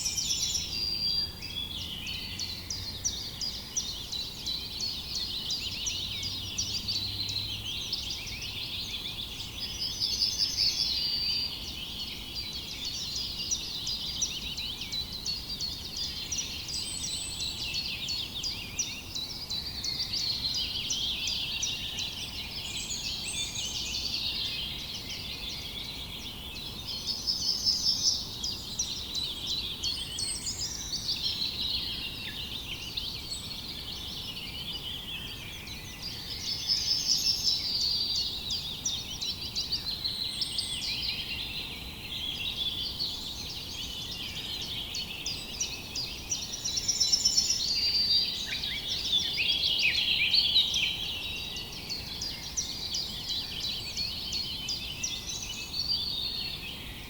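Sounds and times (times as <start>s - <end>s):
small songbirds chirping and trilling: 0.0s - 57.0s.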